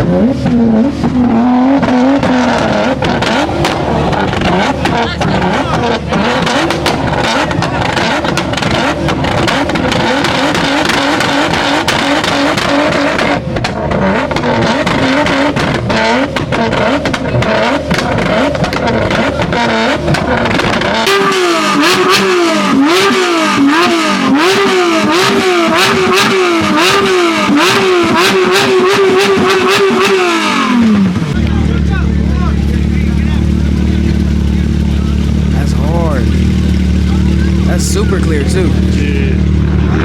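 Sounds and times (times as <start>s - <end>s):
car engine revving with cracks: 0.0s - 40.0s.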